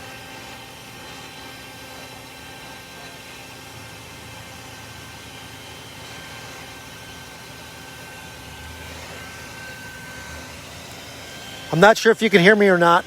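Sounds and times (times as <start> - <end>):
shop vacuum whining: 0.0 - 13.0.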